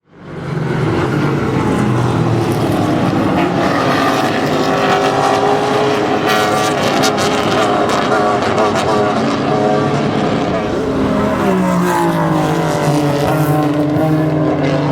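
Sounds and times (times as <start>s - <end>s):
racing car engines: 0.0s - 14.9s.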